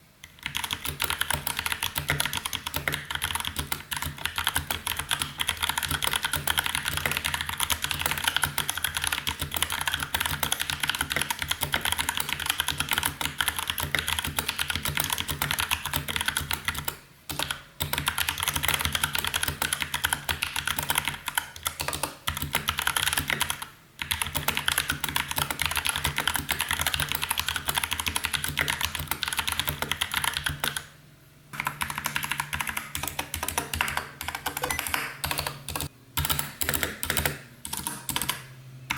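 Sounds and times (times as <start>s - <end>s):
mechanical keyboard typing: 0.2s - 31.0s, 31.6s - 38.9s.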